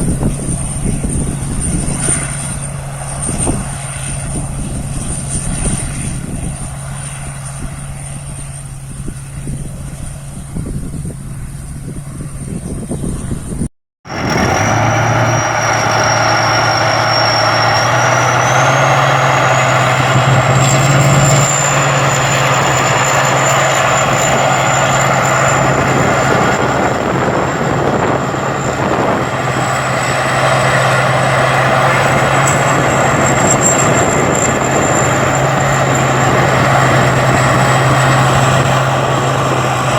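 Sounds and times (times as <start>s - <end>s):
combine harvester engine drone: 0.0s - 39.9s
high thin whine: 0.0s - 39.9s.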